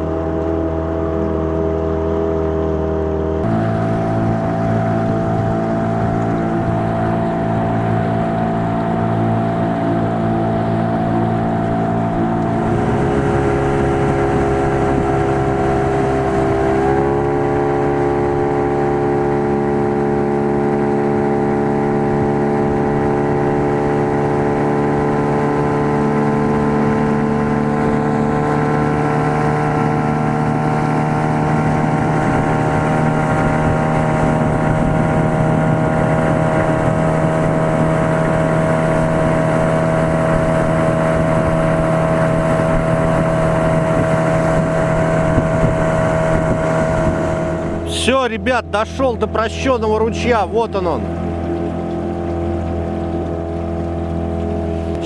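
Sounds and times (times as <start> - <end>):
outboard motor running: 0.0 - 55.0
water rushing along hull: 0.0 - 55.0.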